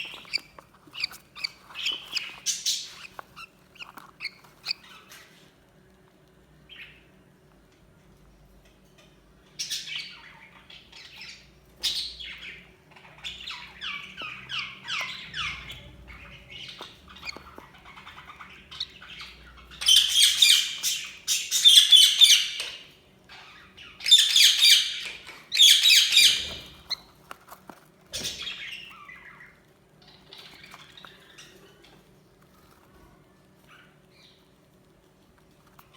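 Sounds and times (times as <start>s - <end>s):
budgerigars chirping and squawking: 0.0s - 5.4s, 9.5s - 32.9s.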